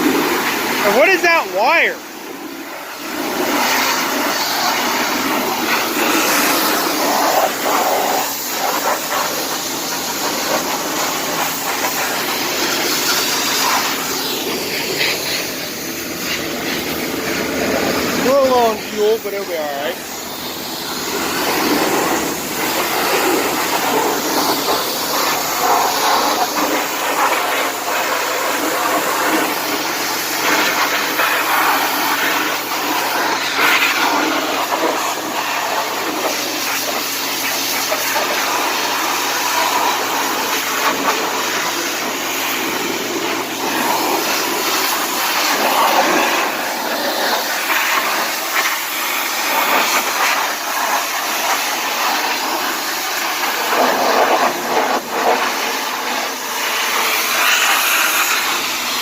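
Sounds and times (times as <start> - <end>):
pressure washer spray hissing: 0.0 - 59.0
washer engine humming: 0.0 - 59.0.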